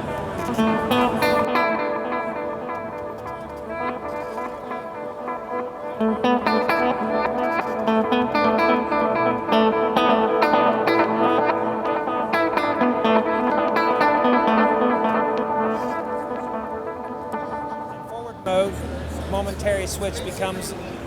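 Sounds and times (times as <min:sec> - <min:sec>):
electric guitar with delay: 0:00.0 - 0:19.1.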